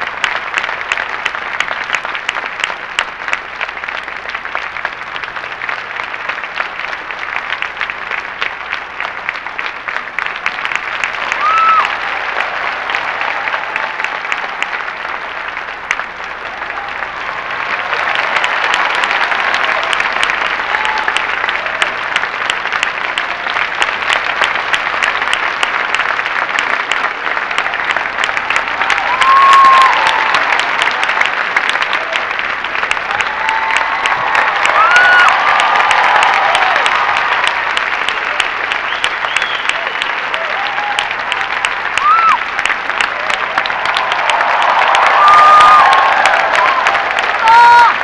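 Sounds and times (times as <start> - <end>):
audience applauding: 0.0 - 48.0
crowd cheering: 0.0 - 48.0.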